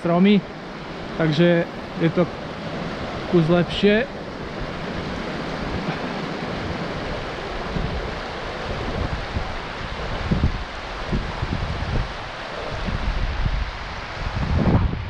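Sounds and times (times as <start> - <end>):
stream rushing over stones: 0.0 - 14.7
wind buffeting microphone: 0.4 - 15.0.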